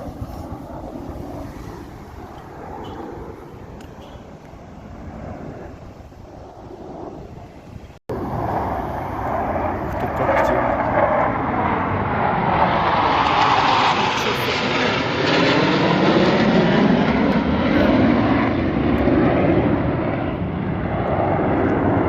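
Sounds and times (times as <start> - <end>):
fighter jet roar: 0.0 - 22.0.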